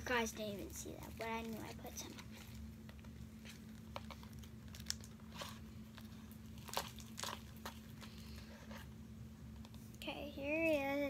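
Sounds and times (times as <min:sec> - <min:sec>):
sticky slime crackles: 0:00.0 - 0:08.9
faint steady hum: 0:00.0 - 0:11.0.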